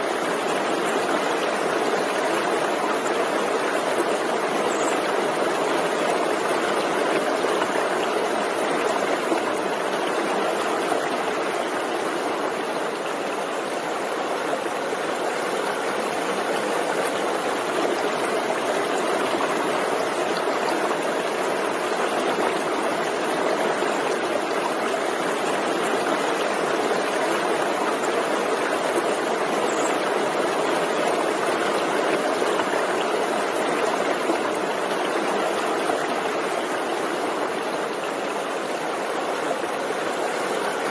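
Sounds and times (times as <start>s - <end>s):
stream flowing water: 0.0s - 40.9s.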